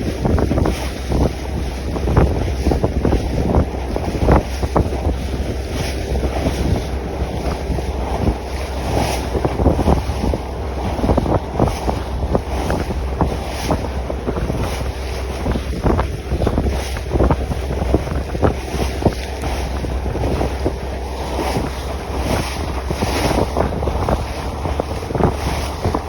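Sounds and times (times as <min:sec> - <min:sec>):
water rushing along hull: 0:00.0 - 0:26.0
wind buffeting microphone: 0:00.0 - 0:26.0.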